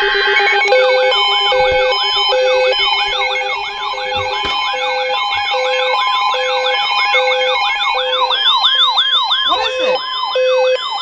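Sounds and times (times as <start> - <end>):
steady alert tones: 0.0 - 10.0
pulsed beeps: 0.0 - 11.0
warbling siren sweeps: 0.0 - 11.0.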